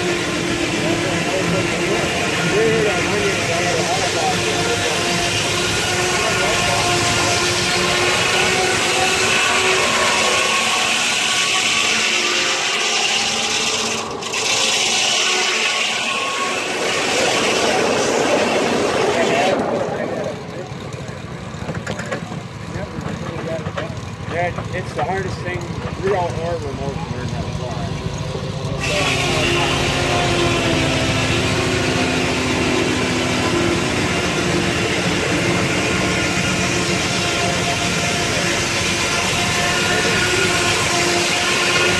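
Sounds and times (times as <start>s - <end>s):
sawmill blade cutting log: 0.0s - 41.9s.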